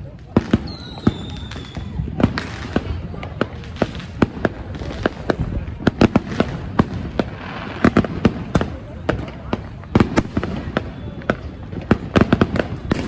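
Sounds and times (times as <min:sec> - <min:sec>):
fireworks bangs and pops: 0:00.0 - 0:13.0
fireworks crackling: 0:00.0 - 0:13.0.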